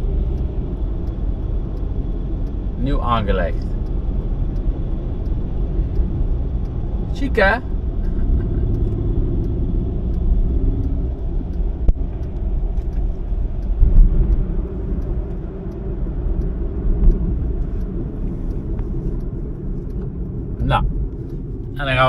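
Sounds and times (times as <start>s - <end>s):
tyre and engine rumble: 0.0s - 22.0s.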